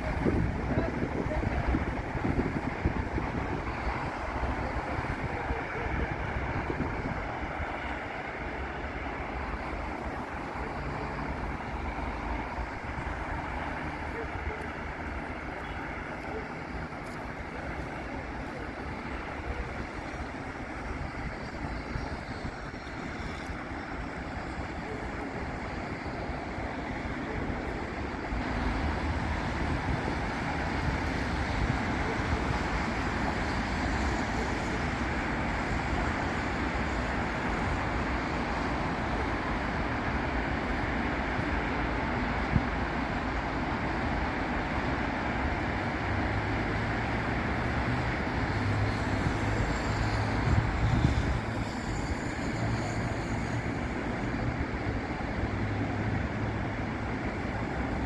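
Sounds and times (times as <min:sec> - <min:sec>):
city traffic passing: 0:00.0 - 0:58.0.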